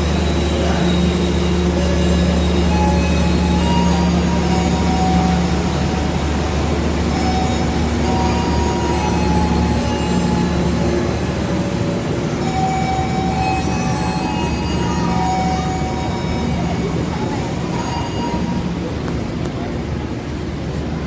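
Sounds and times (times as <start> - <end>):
locomotive engine humming: 0.0 - 21.0.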